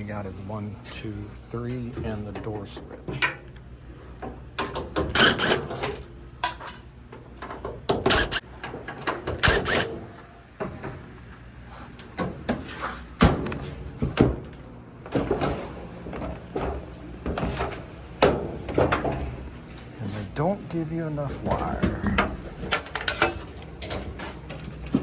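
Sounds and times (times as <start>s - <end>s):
clunks and rattles of handling panels: 1.6s - 11.2s, 12.0s - 19.8s, 21.3s - 25.0s.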